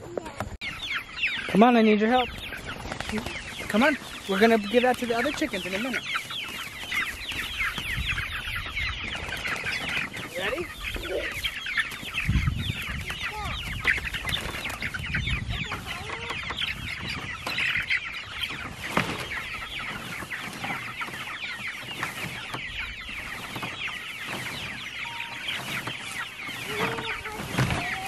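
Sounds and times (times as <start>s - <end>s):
chickens chirping: 0.0s - 28.0s.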